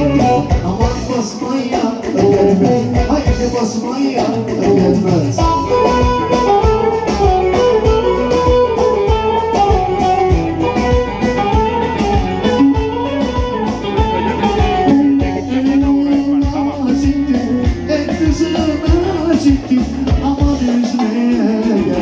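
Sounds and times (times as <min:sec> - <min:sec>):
folk dance music: 0:00.0 - 0:22.0.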